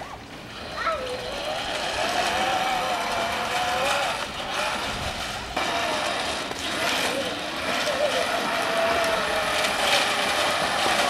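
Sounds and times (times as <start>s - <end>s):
toy vehicle motor whine: 0.6s - 11.0s.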